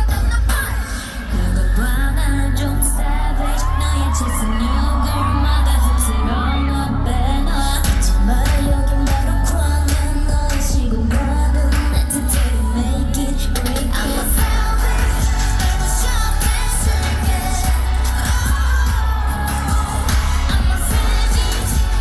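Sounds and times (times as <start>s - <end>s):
dance track with female vocals: 0.0s - 22.0s
heavy bass: 0.0s - 22.0s.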